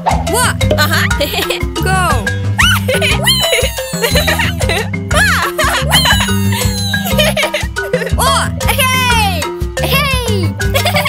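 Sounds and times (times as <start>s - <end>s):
upbeat cartoon music: 0.0s - 11.0s.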